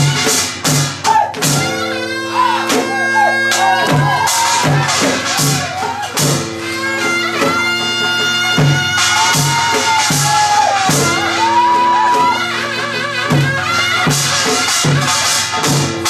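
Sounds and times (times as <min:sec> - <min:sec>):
drum beats: 0:00.0 - 0:16.0
wavering wind instrument melody: 0:01.4 - 0:15.8.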